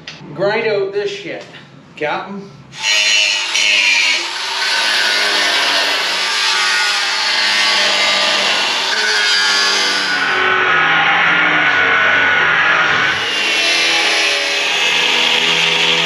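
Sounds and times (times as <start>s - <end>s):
cut-off wheel grinding steel: 2.8s - 16.0s.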